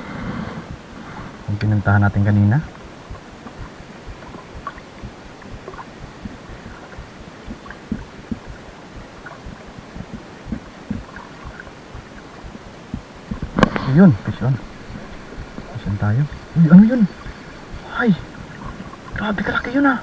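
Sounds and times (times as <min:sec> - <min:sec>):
steady hiss: 0:00.0 - 0:20.0
water lapping against boat hull: 0:02.6 - 0:19.9.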